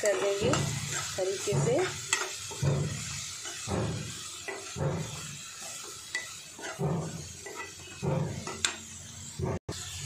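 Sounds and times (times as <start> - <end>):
spoon stirring and scraping: 0.0 - 9.5
food sizzling in oil: 0.0 - 10.0.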